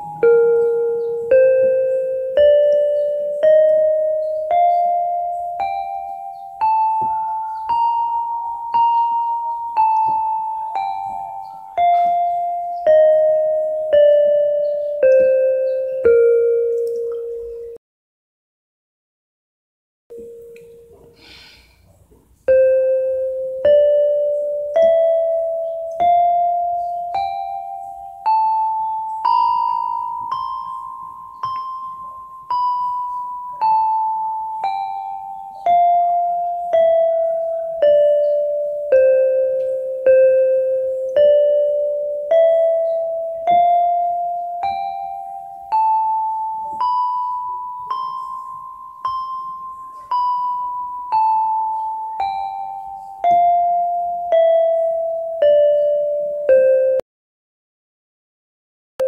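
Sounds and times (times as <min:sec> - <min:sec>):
electronic keyboard playing scale: 0:00.0 - 0:17.8, 0:20.1 - 0:57.0.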